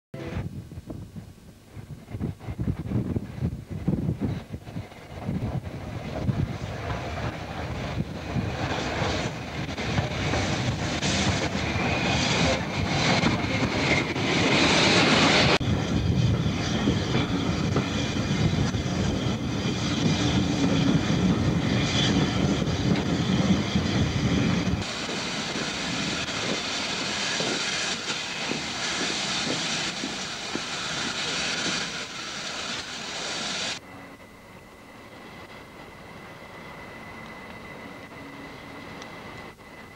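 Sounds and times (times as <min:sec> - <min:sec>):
steam train running: 0:01.2 - 0:39.9
steam hissing: 0:04.2 - 0:15.6, 0:16.5 - 0:39.9.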